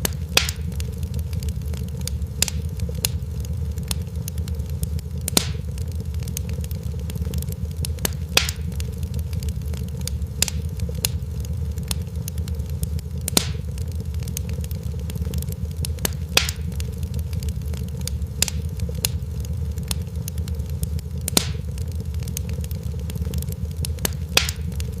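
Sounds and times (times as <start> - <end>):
loud fire pops: 0.0 - 25.0
wood fire crackling: 0.0 - 25.0.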